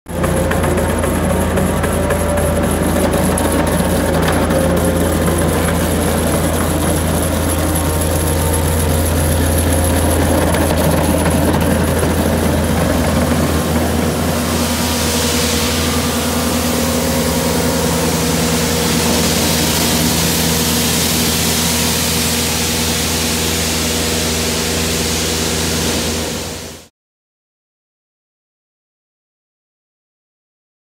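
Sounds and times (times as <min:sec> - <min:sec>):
harsh grinding of concrete: 0:00.1 - 0:26.8
loader engine drone: 0:00.1 - 0:26.9.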